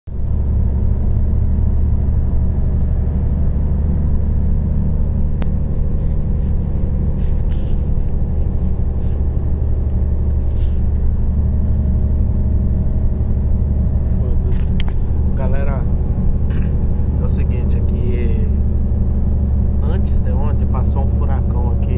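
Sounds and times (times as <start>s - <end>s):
coach engine and road noise: 0.1s - 21.9s.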